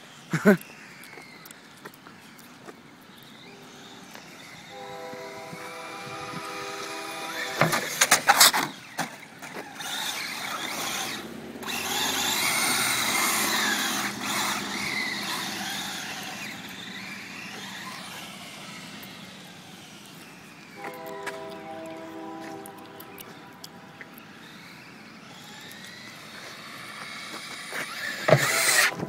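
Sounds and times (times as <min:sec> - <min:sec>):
electric motor whining: 0:03.3 - 0:29.0.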